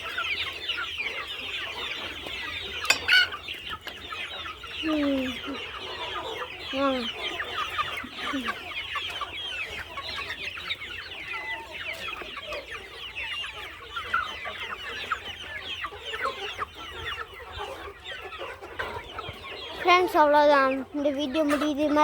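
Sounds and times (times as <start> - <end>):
chicken clucking: 0.0 - 22.0
chicks peeping: 0.0 - 22.0.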